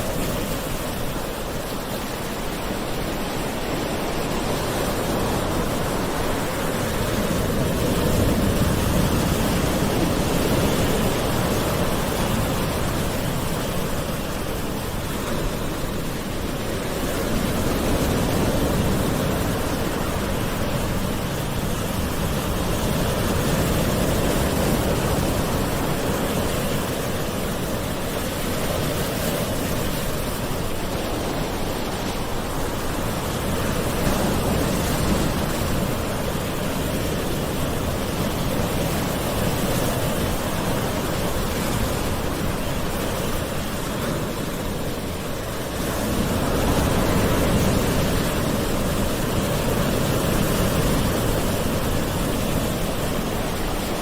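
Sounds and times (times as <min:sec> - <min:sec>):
gentle ocean waves: 0:00.0 - 0:54.0.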